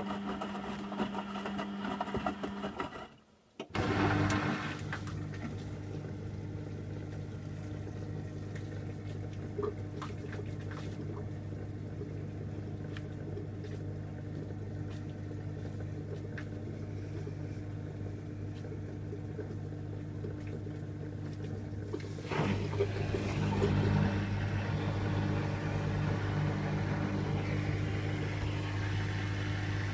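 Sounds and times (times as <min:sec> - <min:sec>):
washing machine low hum: 0:03.7 - 0:29.9.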